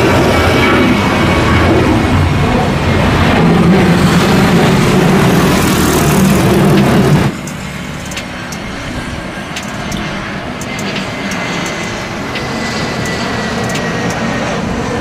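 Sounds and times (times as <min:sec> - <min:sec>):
airliner engine noise on approach: 0:00.0 - 0:15.0
jet airliner engines rumbling: 0:00.0 - 0:15.0.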